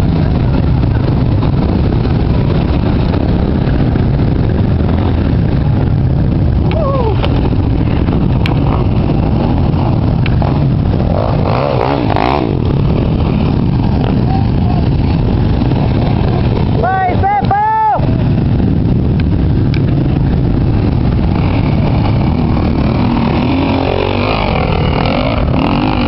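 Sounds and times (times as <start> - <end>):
dirt bike engines rumbling: 0.0 - 26.0.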